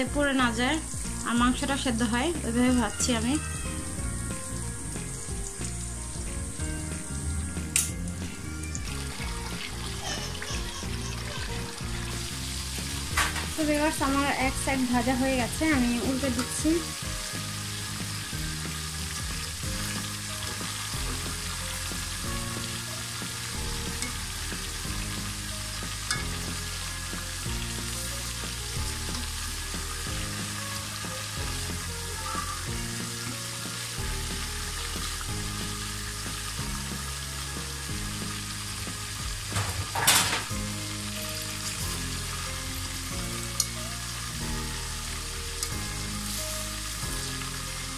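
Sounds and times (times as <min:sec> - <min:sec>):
chicken deep-frying in oil: 0:00.0 - 0:47.9
soft background music: 0:00.0 - 0:47.9.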